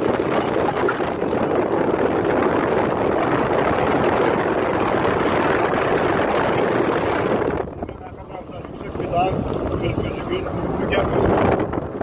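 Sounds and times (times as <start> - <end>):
vehicle road noise: 0.0 - 12.0
wind noise: 0.0 - 12.0.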